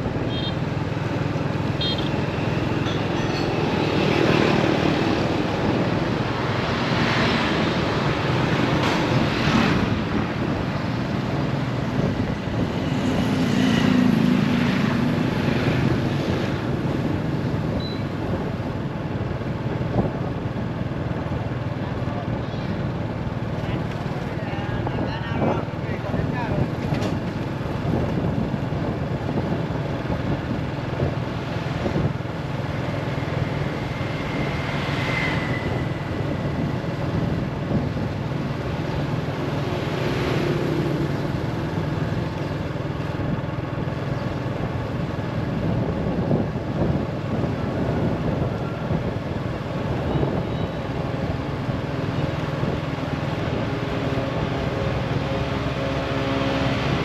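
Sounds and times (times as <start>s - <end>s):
motor vehicle engine drone: 0.0s - 57.0s.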